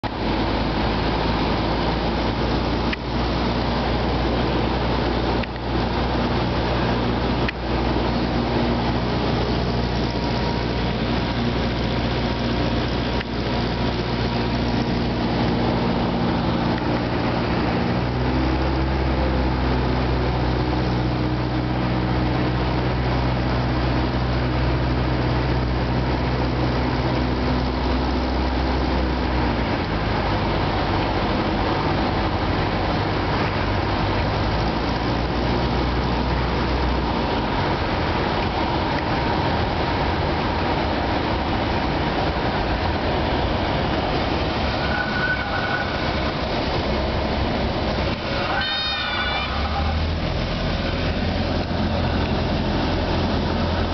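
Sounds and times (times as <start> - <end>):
propeller aircraft engine droning: 0.0 - 53.9.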